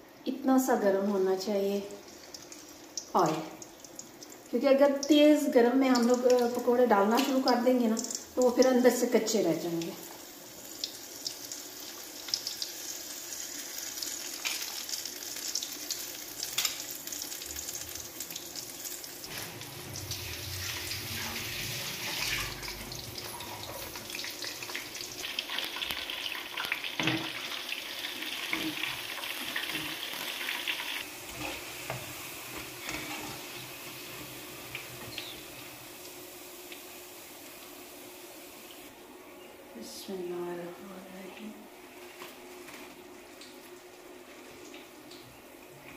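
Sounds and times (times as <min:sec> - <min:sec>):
deep-frying sizzle and crackles: 0:01.6 - 0:38.9, 0:41.9 - 0:45.9.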